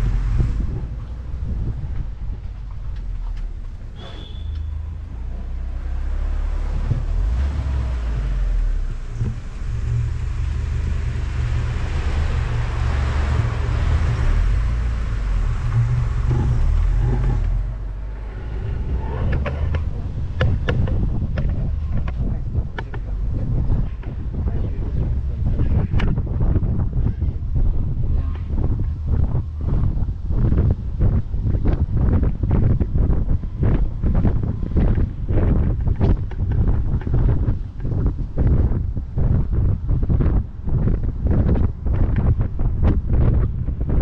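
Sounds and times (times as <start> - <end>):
car engine rumble: 0.0 - 44.0
road noise: 0.0 - 44.0
rushing wind: 0.0 - 44.0.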